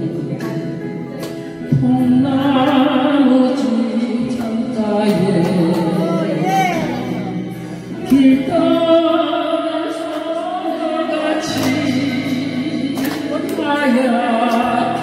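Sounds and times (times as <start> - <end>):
karaoke backing track: 0.0 - 15.0
woman singing into microphone: 0.0 - 15.0.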